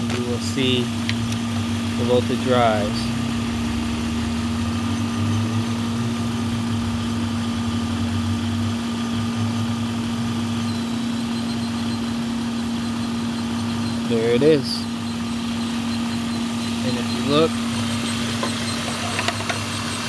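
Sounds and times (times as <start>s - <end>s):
constant hum: 0.0s - 20.0s
engine idling: 0.0s - 20.0s.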